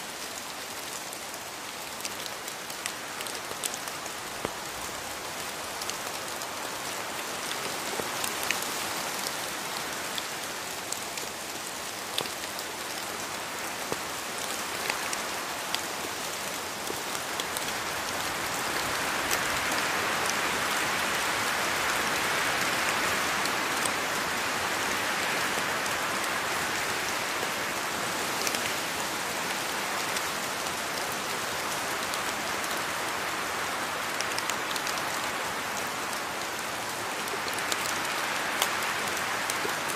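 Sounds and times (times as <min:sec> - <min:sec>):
rain pattering on foliage: 0:00.0 - 0:39.9.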